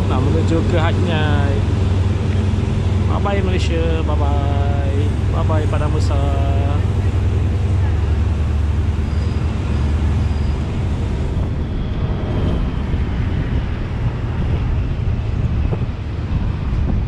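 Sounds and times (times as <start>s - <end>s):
train rumbling on board: 0.0s - 17.0s.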